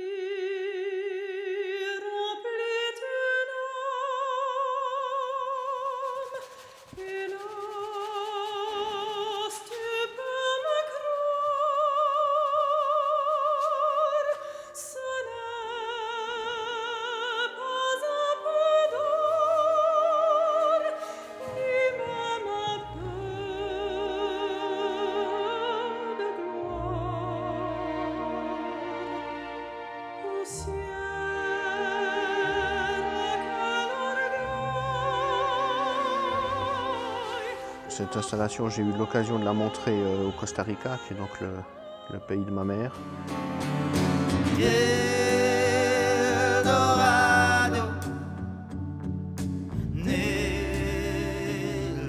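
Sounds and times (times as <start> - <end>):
operatic singing voice: 0.0 - 43.2, 44.4 - 48.7, 49.8 - 52.0.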